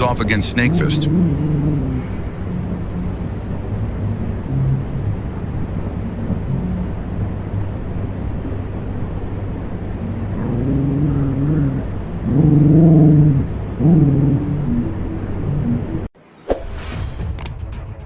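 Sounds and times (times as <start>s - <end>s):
dog howling: 0.0s - 16.1s
steady low rumble: 0.0s - 18.0s.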